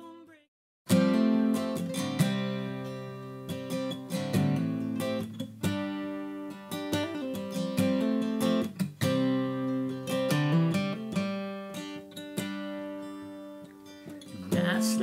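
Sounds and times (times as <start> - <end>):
acoustic guitar strumming: 0.9 - 15.0.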